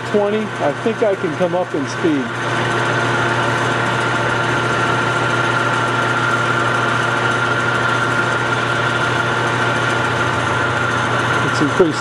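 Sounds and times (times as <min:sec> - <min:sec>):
lathe drilling into steel: 0:00.0 - 0:12.0.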